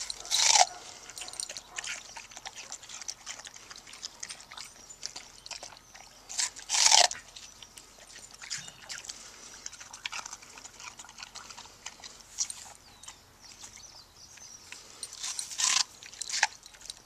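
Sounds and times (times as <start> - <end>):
puppy chewing watermelon rind: 0.0 - 17.0.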